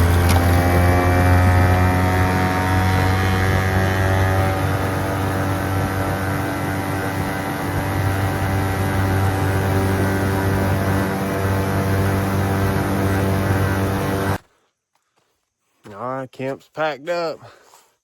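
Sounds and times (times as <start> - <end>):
boat motor running: 0.0 - 14.4.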